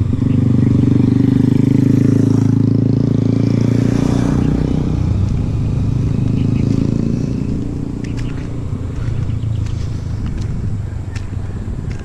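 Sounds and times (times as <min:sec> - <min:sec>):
small motorcycle engine passing: 0:00.0 - 0:11.9.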